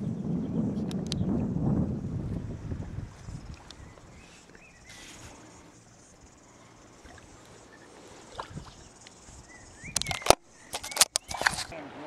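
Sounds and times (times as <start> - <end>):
kayak paddle splashing water: 2.1 - 12.0.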